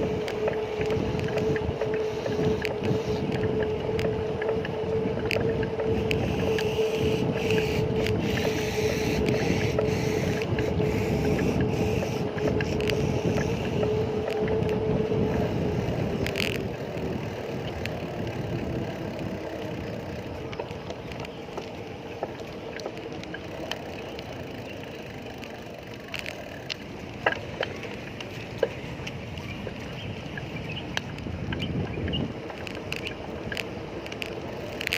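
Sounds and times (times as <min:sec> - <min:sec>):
motor vehicle hum: 0:00.0 - 0:34.9
road and wind noise: 0:00.0 - 0:34.9.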